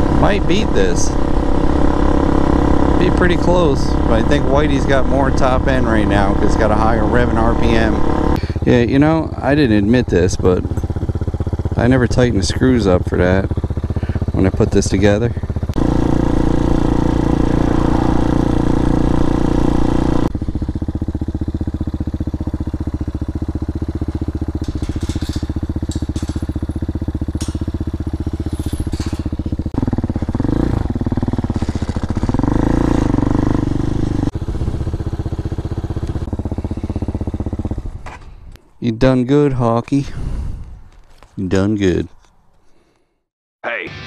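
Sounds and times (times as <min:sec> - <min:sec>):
motorcycle engine running: 0:00.0 - 0:38.6.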